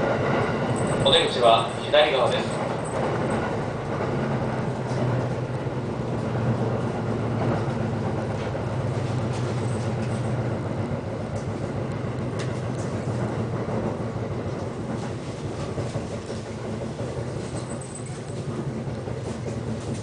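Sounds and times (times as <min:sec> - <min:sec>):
electric train hum: 0:00.0 - 0:20.0
rail and wheel noise: 0:00.0 - 0:20.0.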